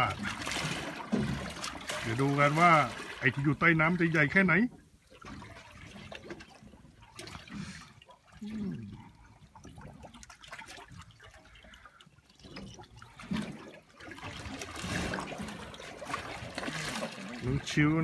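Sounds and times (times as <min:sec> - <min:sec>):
water lapping against boat: 0:00.0 - 0:18.0.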